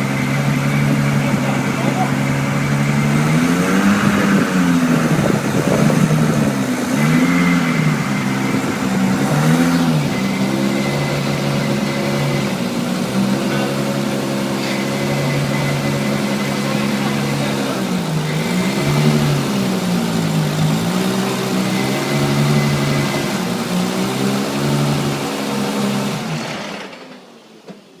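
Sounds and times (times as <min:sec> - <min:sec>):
car engine through exhaust: 0:00.0 - 0:27.6.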